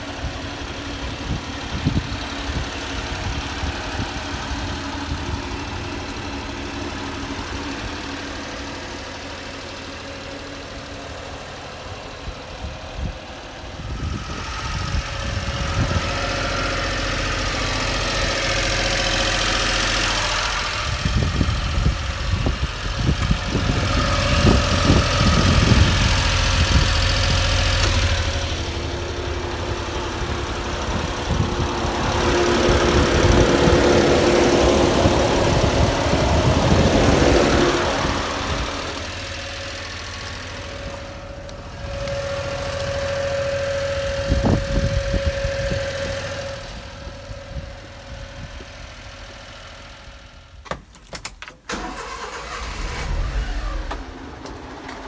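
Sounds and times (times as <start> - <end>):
small truck engine idling: 0.0 - 55.0.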